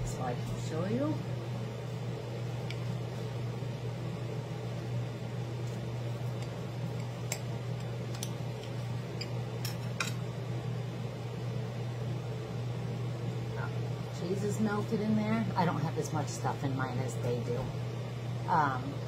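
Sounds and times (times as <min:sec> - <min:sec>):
room fan humming: 0:00.0 - 0:19.0.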